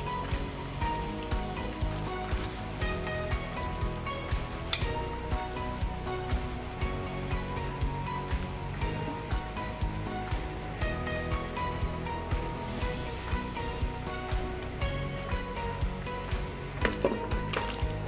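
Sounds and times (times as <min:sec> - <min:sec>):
background music with beat: 0:00.0 - 0:18.0
broth bubbling: 0:00.0 - 0:18.0.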